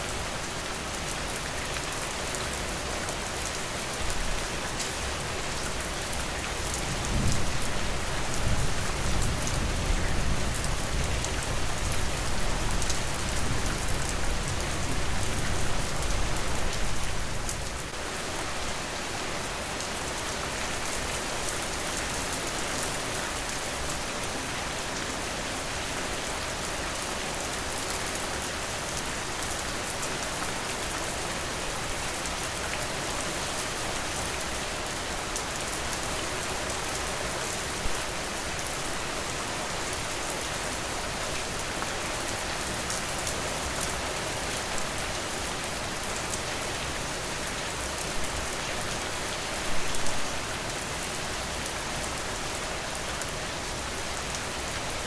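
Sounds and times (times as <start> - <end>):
rain falling on a porch: 0.0 - 55.0.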